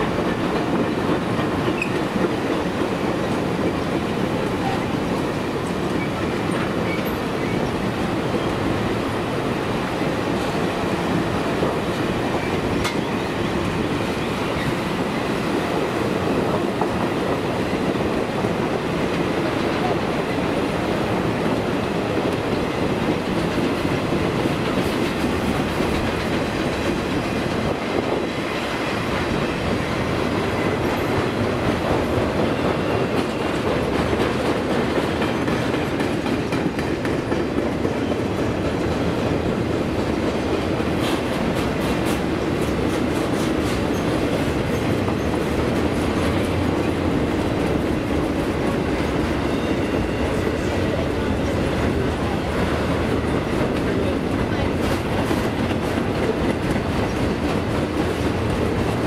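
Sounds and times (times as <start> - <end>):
train cars rumbling past: 0.0 - 59.0.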